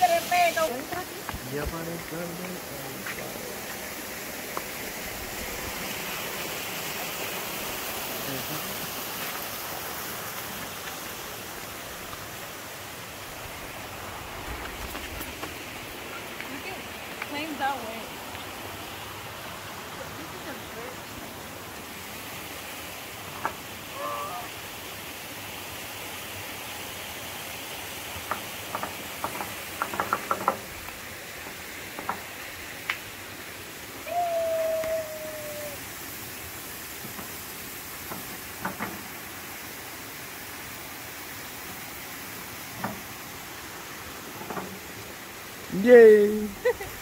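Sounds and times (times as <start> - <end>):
running water hissing: 0.0 - 47.0.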